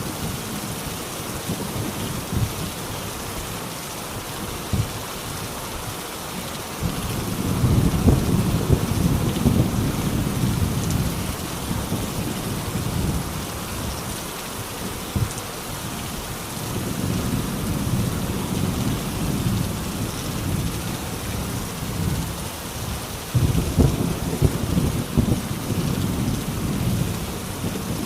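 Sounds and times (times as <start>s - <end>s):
steady rain hissing: 0.0s - 28.0s.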